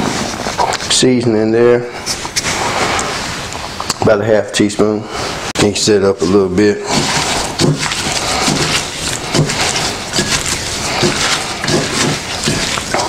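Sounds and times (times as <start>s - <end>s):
rustling and wet squishing: 0.0s - 13.0s.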